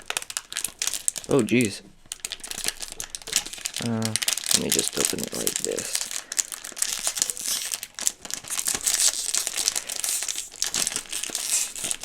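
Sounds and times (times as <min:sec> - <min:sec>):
snack wrapper crinkling: 0:00.0 - 0:12.0.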